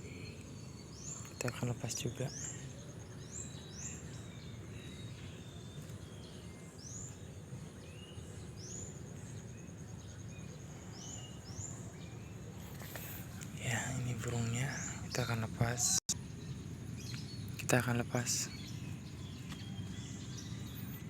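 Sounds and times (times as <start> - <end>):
outdoor background noise: 0.0 - 21.0
small bird chirping: 0.0 - 21.0.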